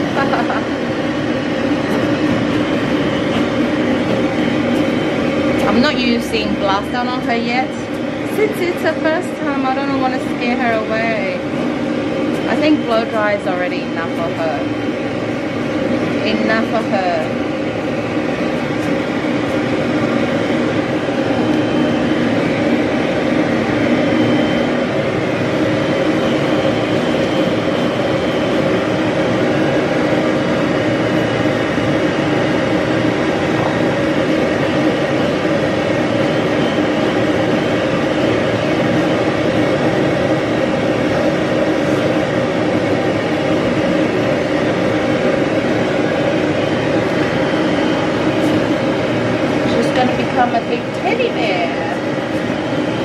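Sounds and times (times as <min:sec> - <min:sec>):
blow dryer whirring: 0:00.0 - 0:53.0.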